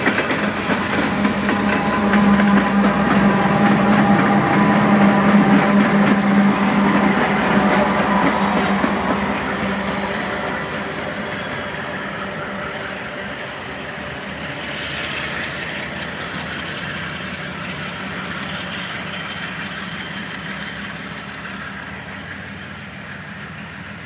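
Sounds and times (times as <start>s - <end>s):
diesel locomotive engines droning: 0.0s - 24.0s.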